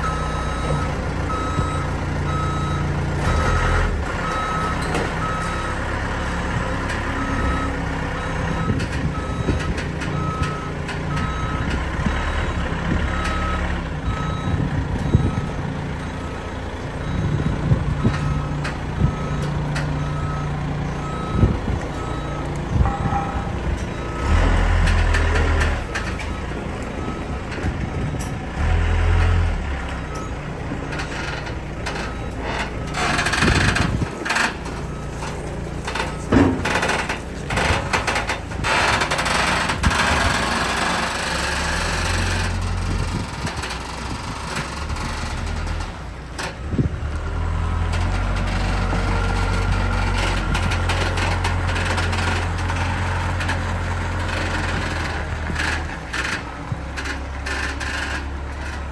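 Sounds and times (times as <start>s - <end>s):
trailer knocks and rattles: 0.0s - 58.9s.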